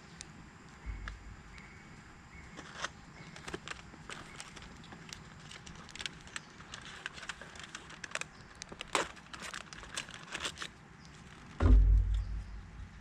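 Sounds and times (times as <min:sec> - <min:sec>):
campfire crackling: 0:00.2 - 0:13.0.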